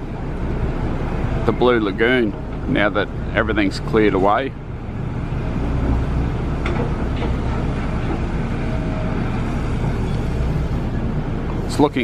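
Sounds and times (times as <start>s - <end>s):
heavy construction machinery rumble: 0.0s - 12.0s.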